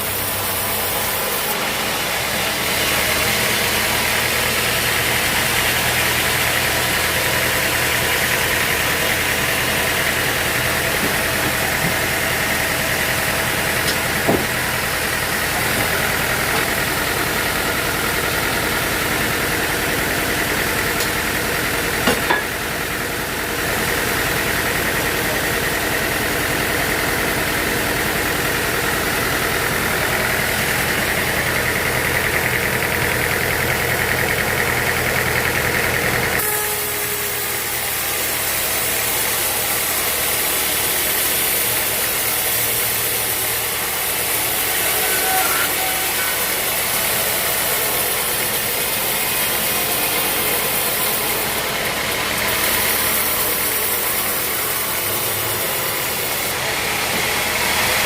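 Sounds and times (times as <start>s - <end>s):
sawmill machinery hum with whine: 0.0s - 58.0s.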